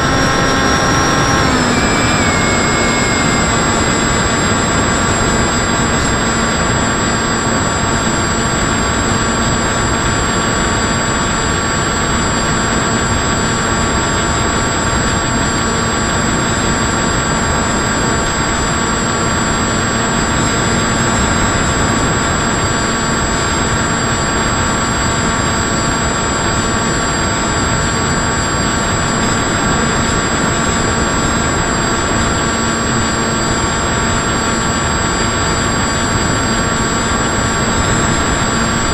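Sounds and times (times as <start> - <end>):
model aircraft motor whine: 0.0 - 38.9
rushing wind noise: 0.0 - 38.9.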